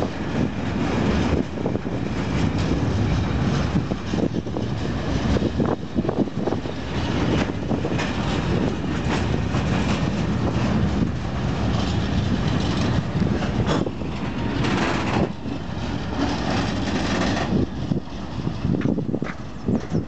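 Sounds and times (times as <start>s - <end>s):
wheels clacking over rail joints: 0.0s - 20.0s
wheels rumbling on rail: 0.0s - 20.0s.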